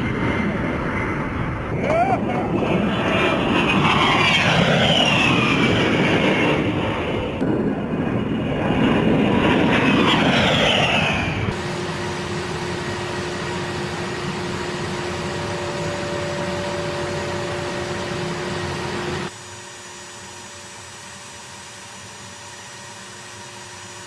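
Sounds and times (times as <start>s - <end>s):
jet engine noise with whine: 0.0s - 24.0s.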